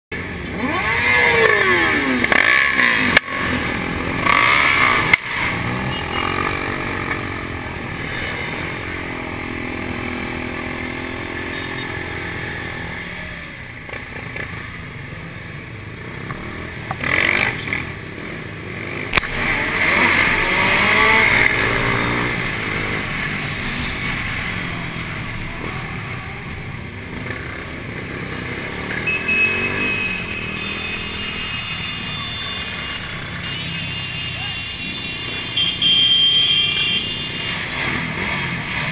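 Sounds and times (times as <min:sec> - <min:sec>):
road and wind noise: 0:00.1 - 0:38.9
motorcycle engine revving: 0:00.2 - 0:35.9, 0:36.6 - 0:38.9.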